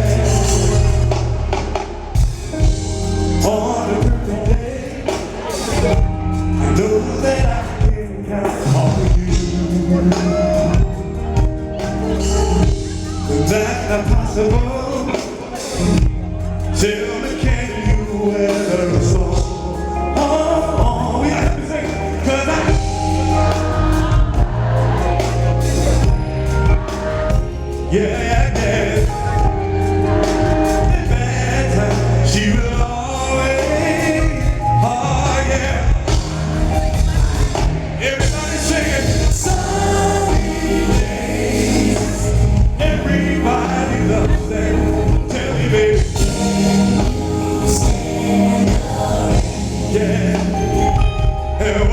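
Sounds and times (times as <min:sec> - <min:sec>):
heavy bass line: 0:00.0 - 0:14.9, 0:15.7 - 0:51.9
gospel style singing: 0:00.0 - 0:51.9
live band playing: 0:00.0 - 0:51.9.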